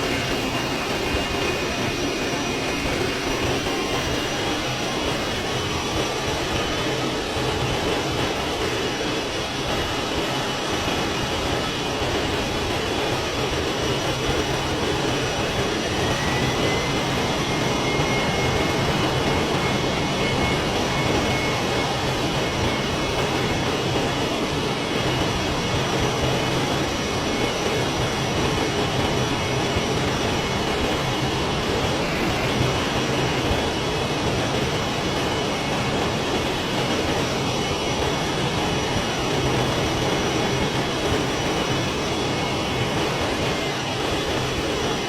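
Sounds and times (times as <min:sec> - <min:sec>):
jet airliner engines roaring: 0:00.0 - 0:45.0.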